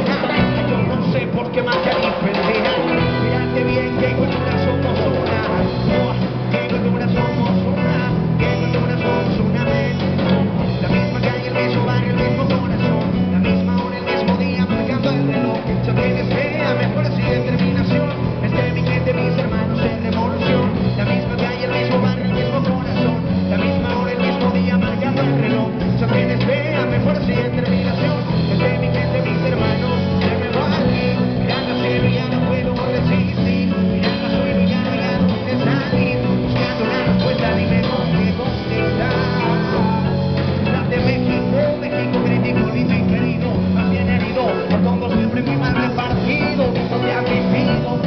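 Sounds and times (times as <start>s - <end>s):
drums: 0.0s - 48.0s
electric bass: 0.0s - 48.0s
electric guitar: 0.0s - 48.0s
man singing into a microphone: 0.0s - 48.0s.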